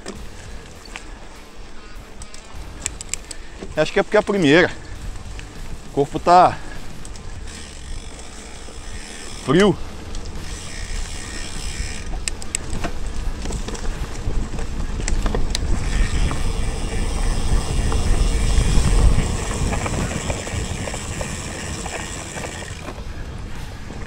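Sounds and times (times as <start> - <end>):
bike rattling clicks: 0.0 - 24.0
bike tyres rumbling on dirt: 0.0 - 24.0
wind: 0.0 - 24.0.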